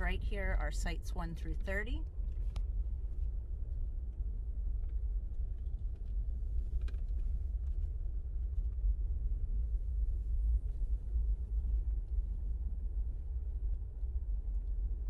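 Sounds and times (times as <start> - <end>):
vehicle engine and tyre rumble: 0.0 - 15.0.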